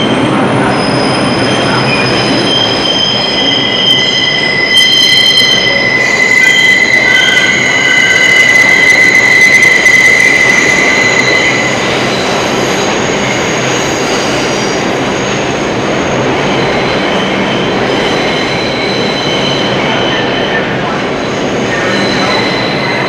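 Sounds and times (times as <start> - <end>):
train rolling rumble: 0.0 - 23.0
train wheels squealing: 0.0 - 23.0.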